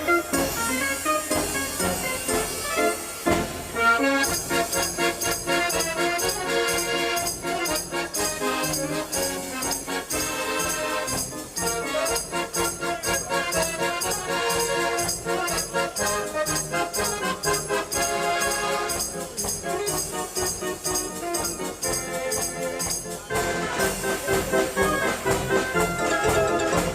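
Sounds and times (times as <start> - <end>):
fairground organ playing: 0.0 - 26.9.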